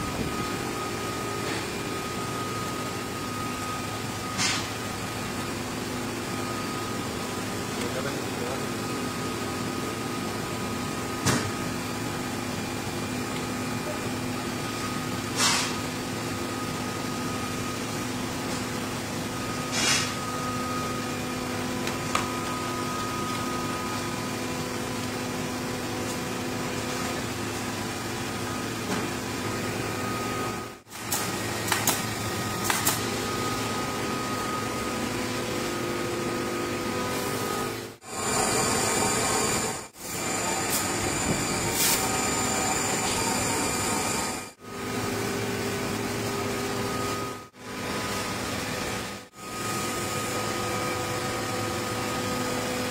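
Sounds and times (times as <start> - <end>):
workshop machinery humming: 0.0 - 52.9.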